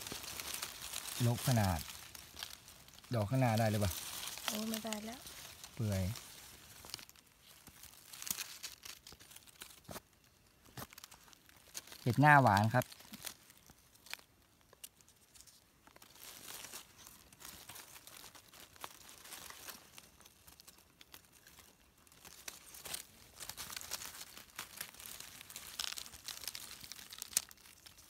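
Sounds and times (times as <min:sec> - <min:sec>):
dry leaves rustling and crackling: 0:00.0 - 0:28.0.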